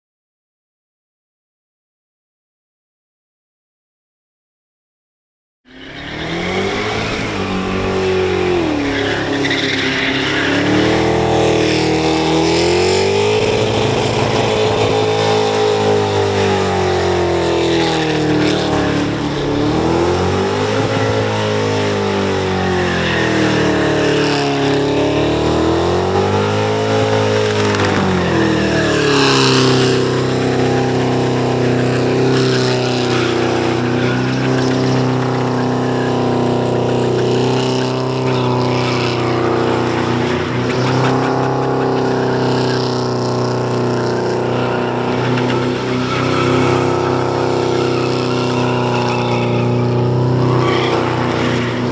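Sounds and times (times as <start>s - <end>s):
tyres squealing and hissing: 5.7s - 25.6s, 26.6s - 42.7s, 44.3s - 51.9s
car engine at high revs: 5.7s - 51.9s.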